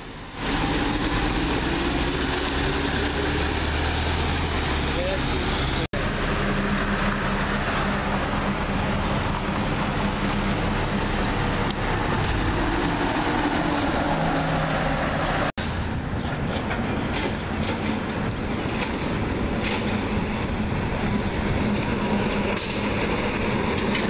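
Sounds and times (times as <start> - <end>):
trucks and traffic passing: 0.0 - 24.0.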